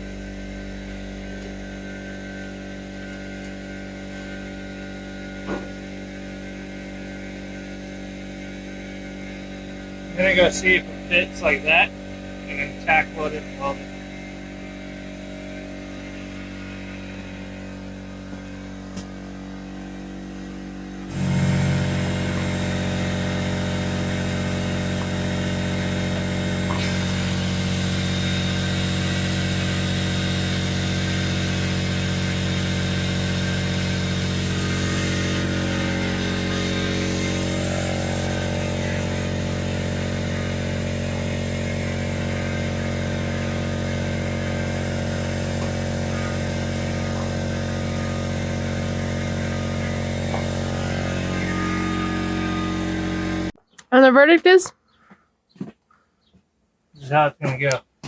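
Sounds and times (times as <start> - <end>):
engine running with loud drone: 0.0 - 53.6.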